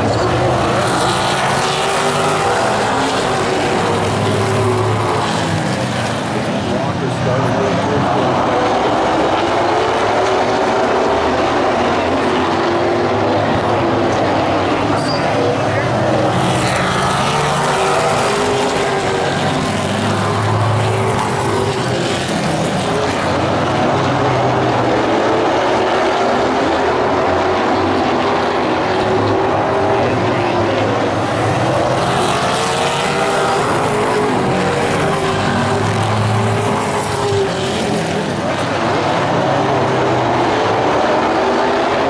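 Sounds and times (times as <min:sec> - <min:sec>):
race car engines passing: 0:00.0 - 0:42.0.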